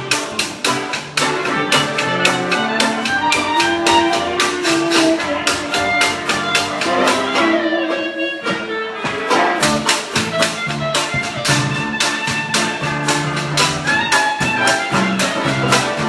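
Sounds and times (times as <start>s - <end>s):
live jazz band playing: 0.0s - 16.0s.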